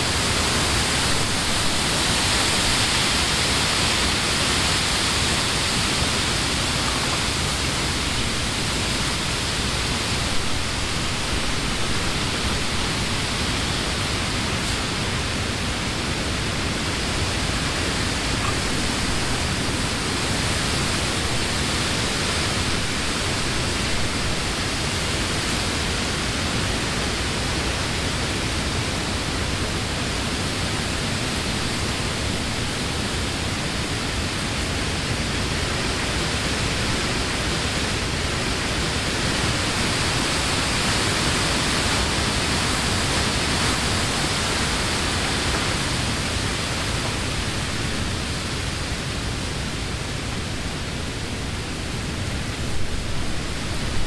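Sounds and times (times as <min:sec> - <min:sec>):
wind rustling leafy trees: 0:00.0 - 0:54.0.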